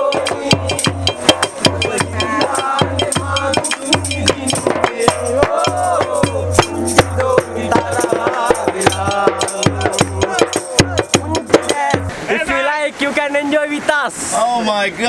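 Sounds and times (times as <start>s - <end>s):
wavering melody: 0.0s - 12.1s
rattling percussion: 0.0s - 12.2s
upbeat music: 0.0s - 12.2s.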